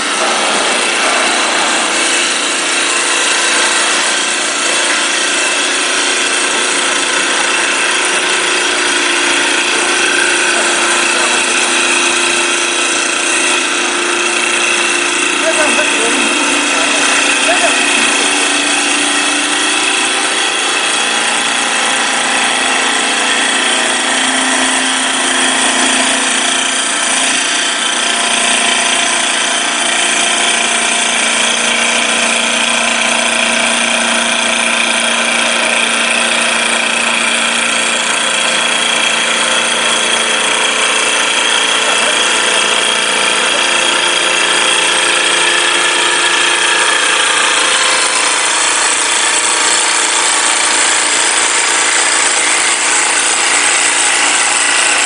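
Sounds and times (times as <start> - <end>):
lathe knives shaving wood: 0.0 - 55.0
machine whine: 0.0 - 55.0.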